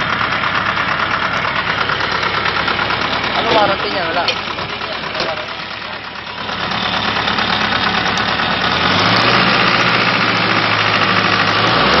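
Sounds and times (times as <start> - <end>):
diesel engine clattering: 0.0 - 12.0.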